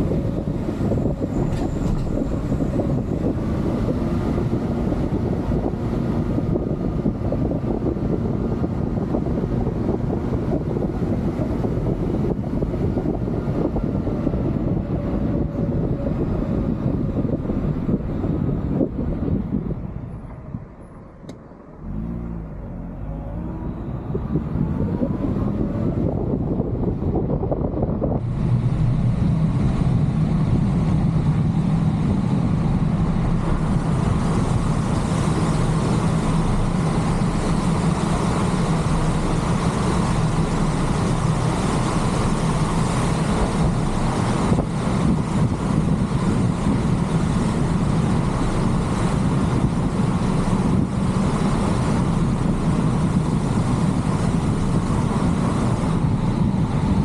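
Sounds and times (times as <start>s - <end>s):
car engine accelerating: 0.0s - 57.0s
road drone: 0.0s - 57.0s.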